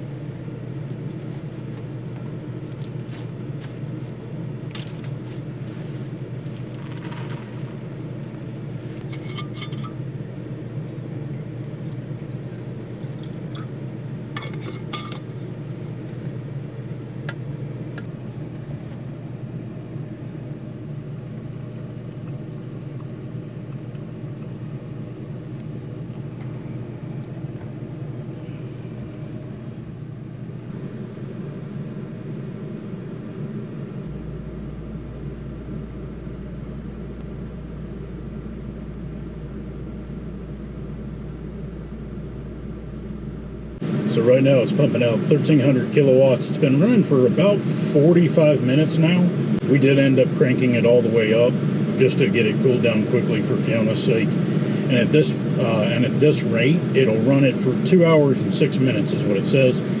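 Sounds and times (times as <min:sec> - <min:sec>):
air conditioner humming: 0:00.0 - 1:00.0.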